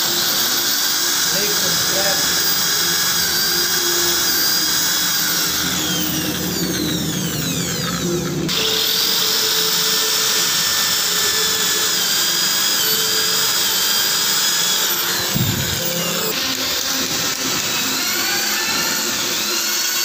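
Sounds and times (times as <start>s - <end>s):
electric drill boring into tile: 0.0s - 20.0s.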